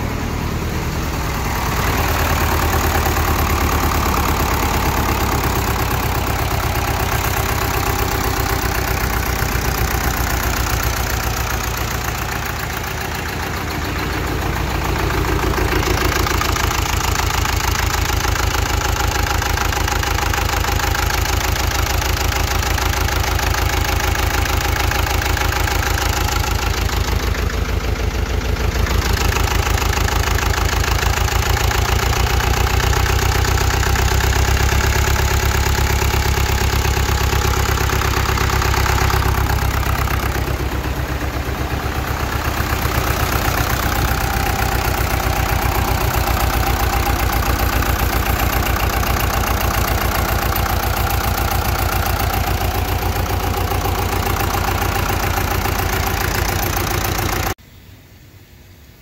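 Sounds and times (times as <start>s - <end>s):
tractor diesel engine running: 0.0s - 57.6s.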